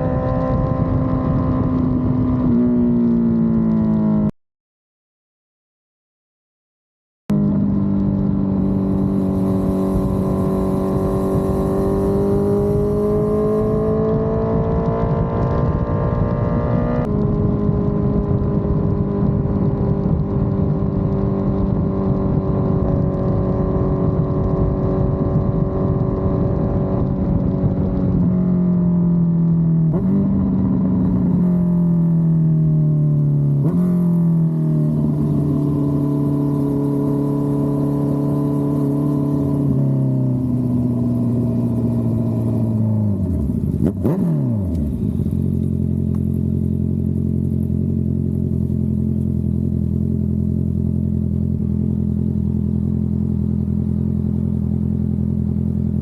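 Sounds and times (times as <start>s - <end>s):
motorcycle engine revving: 0.0s - 4.3s, 7.3s - 56.0s.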